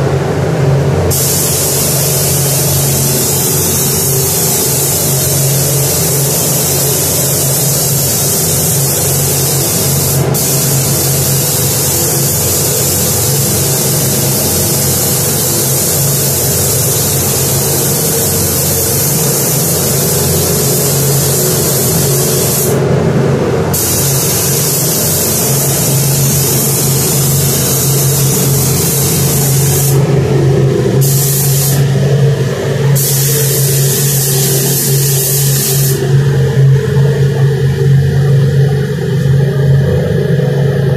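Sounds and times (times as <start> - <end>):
steady low hum: 0.0 - 40.9
spray gun hissing: 1.1 - 22.9, 23.7 - 39.0.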